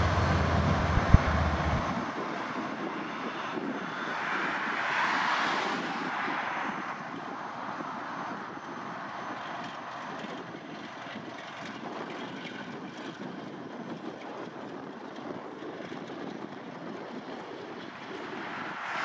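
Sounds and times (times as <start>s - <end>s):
diesel locomotive engine: 0.0s - 19.0s.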